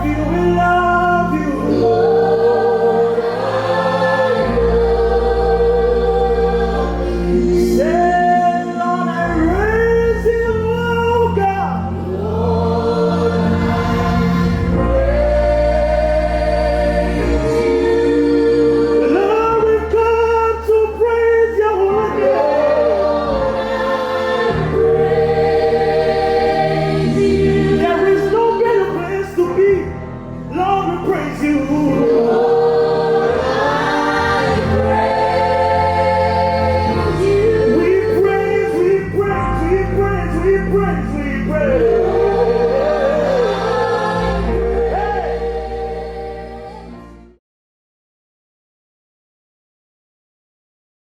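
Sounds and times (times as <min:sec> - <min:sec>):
choir singing gospel song: 0:00.0 - 0:47.4
sustained bass chords: 0:00.0 - 0:47.4.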